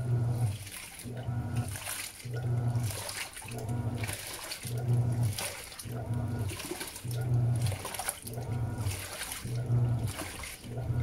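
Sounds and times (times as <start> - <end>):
washing machine motor humming: 0.0 - 11.0
water sloshing and splashing: 0.0 - 11.0.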